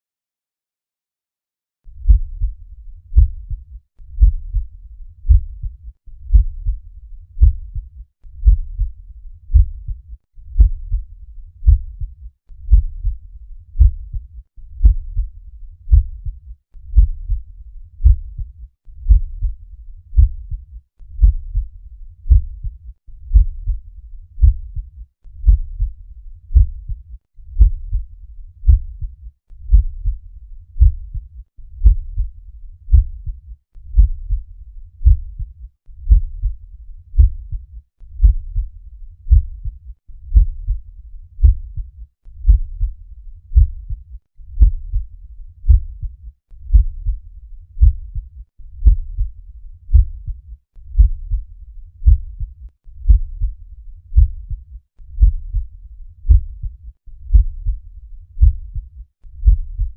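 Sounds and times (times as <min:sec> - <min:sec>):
heartbeat through stethoscope: 0:02.0 - 0:30.2, 0:30.8 - 0:34.4, 0:35.0 - 0:47.2, 0:47.8 - 0:59.9.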